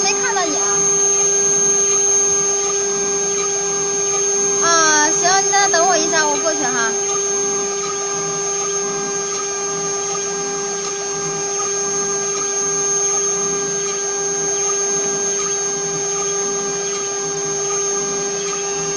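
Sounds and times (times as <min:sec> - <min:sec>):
cutter grinding metal: 0:00.0 - 0:18.9
router spindle whine: 0:00.0 - 0:18.9.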